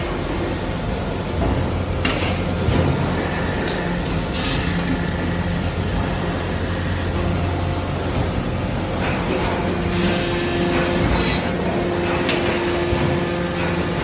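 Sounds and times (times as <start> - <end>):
factory machinery humming: 0.0 - 14.0.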